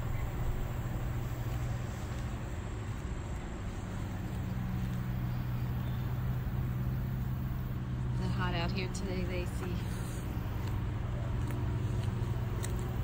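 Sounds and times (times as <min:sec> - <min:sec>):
construction machine engine droning: 0:00.0 - 0:13.0.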